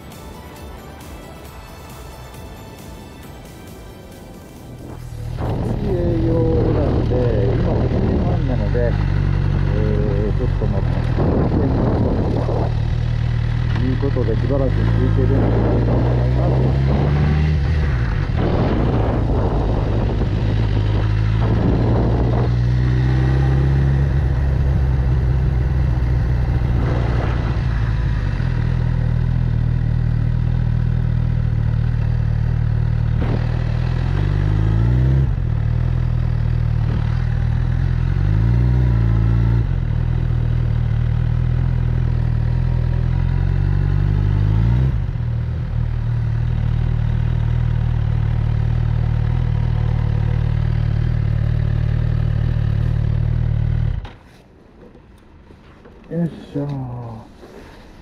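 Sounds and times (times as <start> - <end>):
motorcycle engine revving: 5.0 - 54.2.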